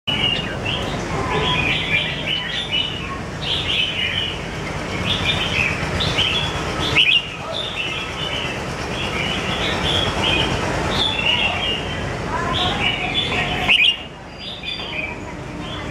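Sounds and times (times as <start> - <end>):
bird warbling song: 0.1 - 15.9.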